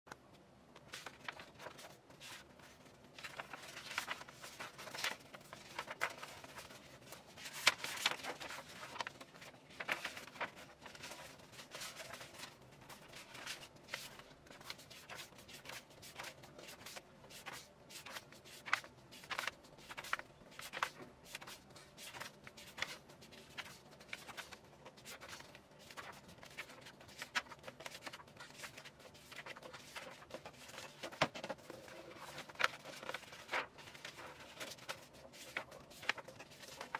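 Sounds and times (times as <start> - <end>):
paper pages turning: 0.8 - 36.9.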